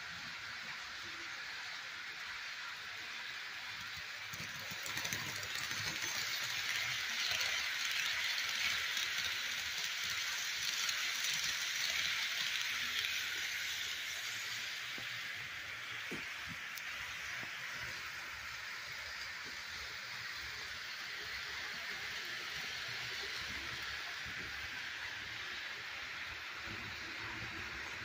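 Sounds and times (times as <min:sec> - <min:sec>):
model train wheels rattling on track: 0:00.2 - 0:28.0.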